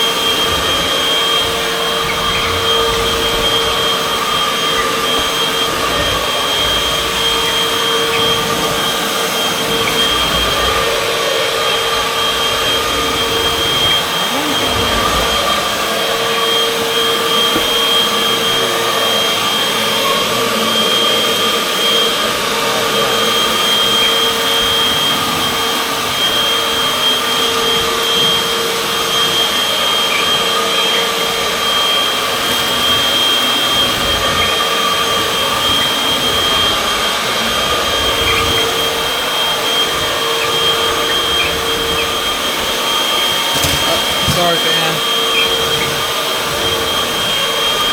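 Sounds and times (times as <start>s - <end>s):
vacuum airflow noise: 0.0s - 47.9s
vacuum cleaner motor whine: 0.0s - 47.9s.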